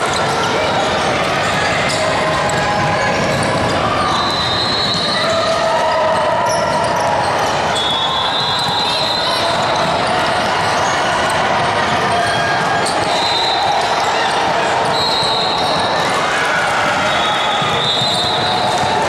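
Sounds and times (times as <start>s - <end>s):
voices of players and spectators: 0.0s - 19.0s
basketball bouncing on court: 0.2s - 13.3s, 16.8s - 19.0s.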